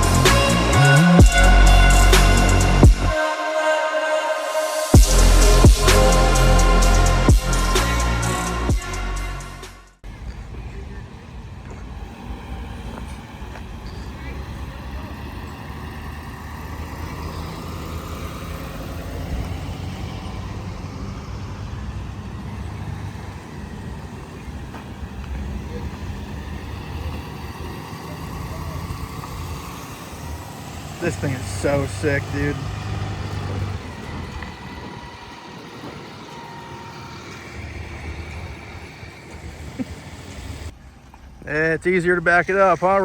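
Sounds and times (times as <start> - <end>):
road noise: 0.0 - 43.0
vehicle engine drone: 0.0 - 43.0.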